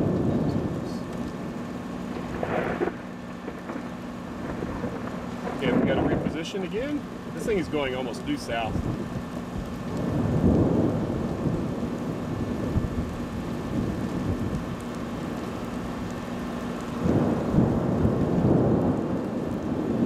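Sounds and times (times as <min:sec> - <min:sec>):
low storm rumble: 0:00.0 - 0:20.0
rain: 0:00.0 - 0:20.0.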